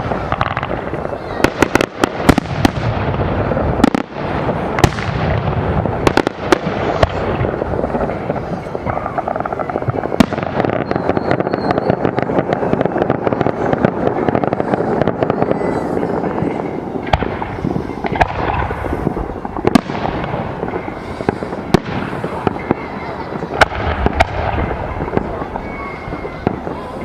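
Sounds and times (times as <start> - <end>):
fireworks crackling: 0.0 - 27.0
fireworks hissing and fizzing: 0.0 - 27.0
firework shells bursting: 3.8 - 27.0.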